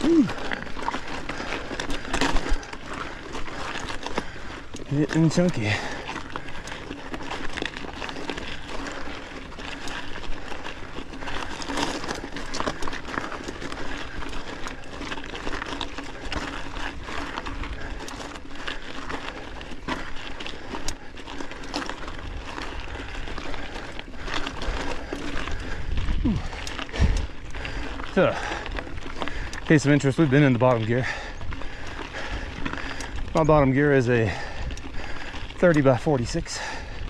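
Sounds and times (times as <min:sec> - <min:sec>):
bike rattling and knocking: 0:00.0 - 0:37.0
tyres crunching over rock: 0:00.0 - 0:37.0.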